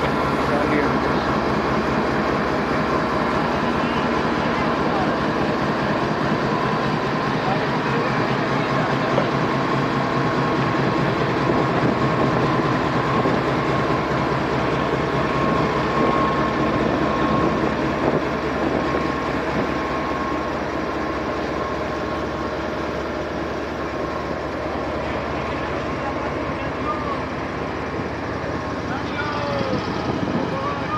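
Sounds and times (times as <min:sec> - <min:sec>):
diesel locomotive engine whining: 0:00.0 - 0:30.9
train coaches rolling by: 0:00.0 - 0:30.9.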